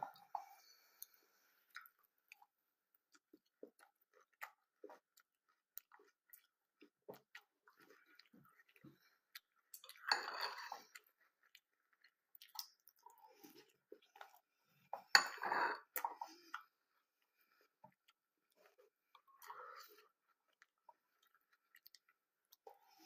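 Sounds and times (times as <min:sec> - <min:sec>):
chewing crunchy cereal: 0:01.0 - 0:14.5, 0:17.8 - 0:23.0.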